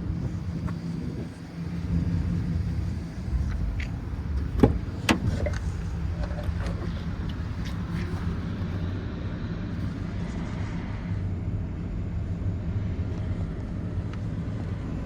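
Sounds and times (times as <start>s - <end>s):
pickup truck engine idling: 0.0s - 10.1s, 11.2s - 15.0s.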